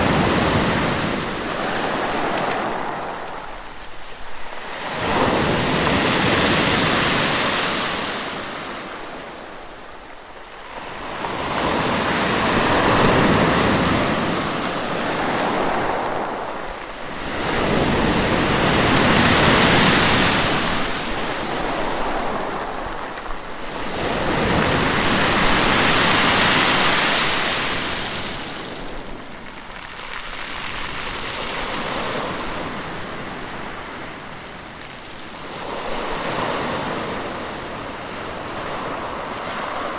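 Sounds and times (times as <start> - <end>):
sea waves surging and washing back: 0.0 - 39.9.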